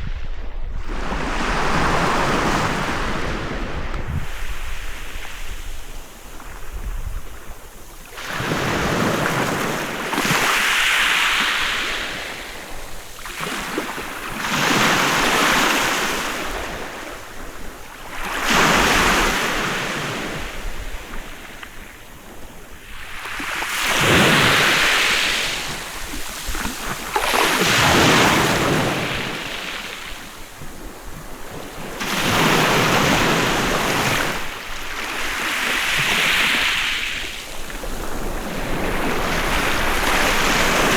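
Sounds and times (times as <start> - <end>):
sea waves breaking on beach: 0.0 - 40.9.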